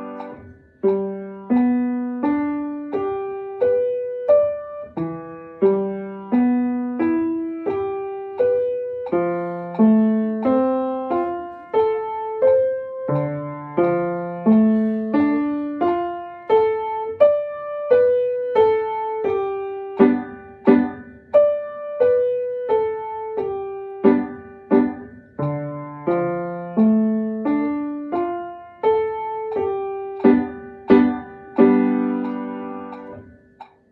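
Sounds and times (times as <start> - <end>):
slow piano melody: 0.0 - 33.9.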